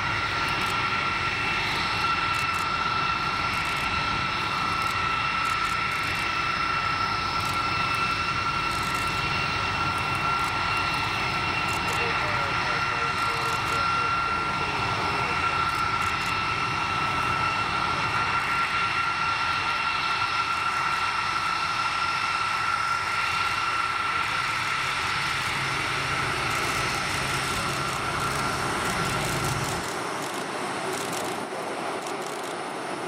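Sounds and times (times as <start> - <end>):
jet engines whining at taxi power: 0.0 - 33.0.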